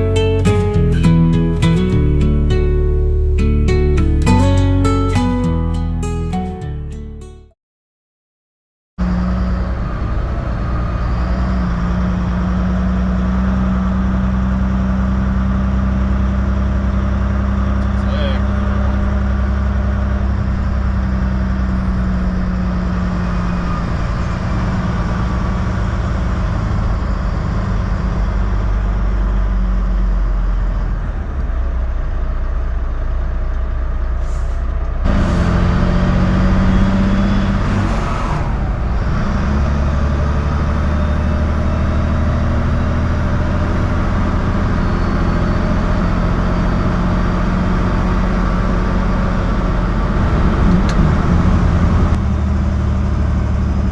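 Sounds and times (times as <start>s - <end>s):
truck diesel engine droning: 0.0s - 7.2s, 9.0s - 53.9s.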